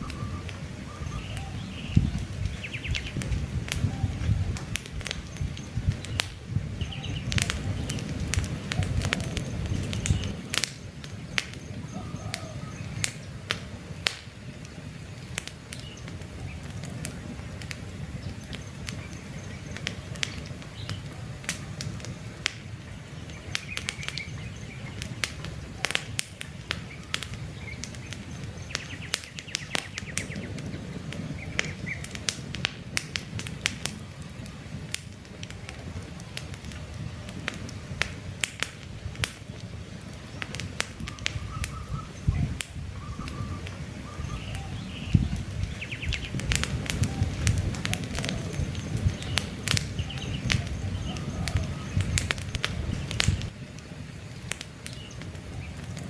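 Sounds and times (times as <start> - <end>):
birds chirping faintly: 0.0 - 32.3, 39.4 - 56.0
wood fire crackling and popping: 0.0 - 56.0.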